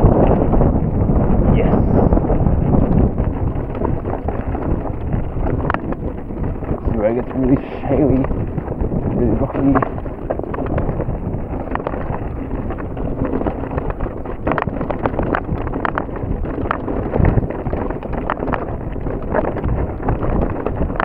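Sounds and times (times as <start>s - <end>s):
bike knocking and rattling: 0.0s - 1.5s, 2.2s - 21.0s
bike tyres on loose stone: 0.0s - 1.5s, 2.1s - 21.0s
wind noise on microphone: 0.0s - 21.0s.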